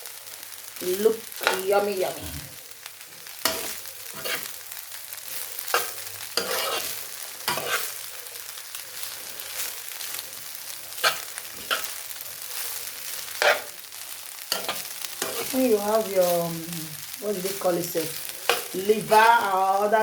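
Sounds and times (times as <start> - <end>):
fried rice sizzling in a pot: 0.0 - 20.0.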